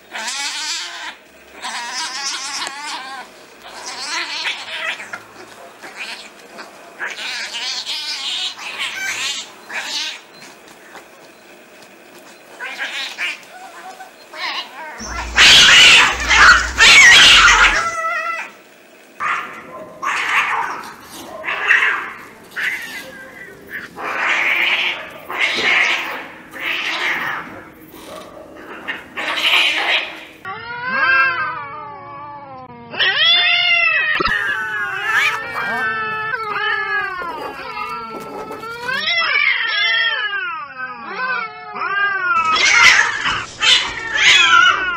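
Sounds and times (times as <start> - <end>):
cats yowling in a fight: 0.1 - 10.3, 12.6 - 18.6, 19.2 - 44.9.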